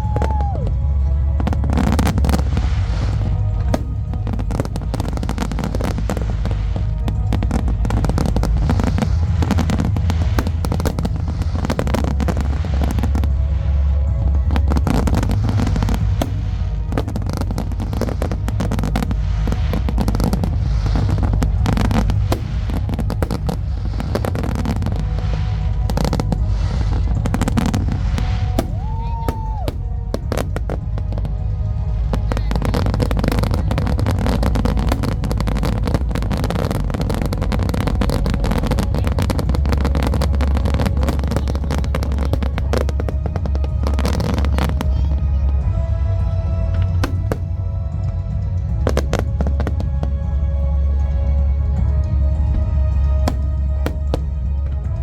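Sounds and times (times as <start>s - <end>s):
fireworks booming and crackling: 0.0s - 55.0s
music over loudspeakers: 0.0s - 55.0s.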